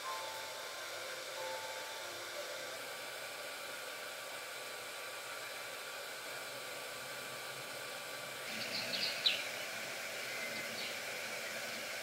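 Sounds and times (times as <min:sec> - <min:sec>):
cooling fan whoosh: 0:00.0 - 0:12.0.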